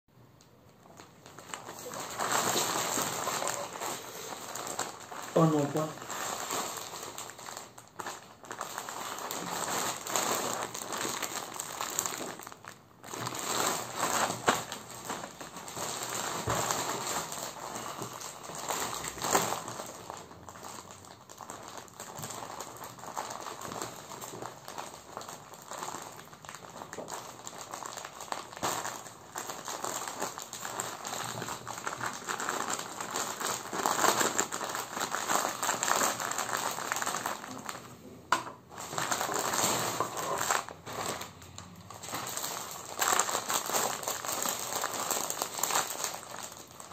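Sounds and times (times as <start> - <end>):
plastic bag crinkling: 0.4 - 46.9.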